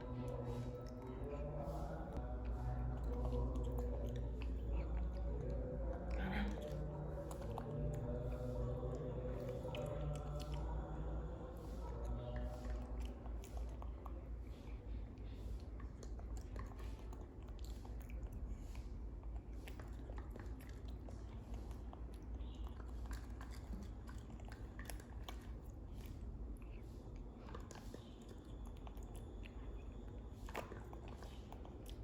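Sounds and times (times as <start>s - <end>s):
monkey chewing: 0.0s - 32.0s
steady low hum: 0.0s - 32.0s.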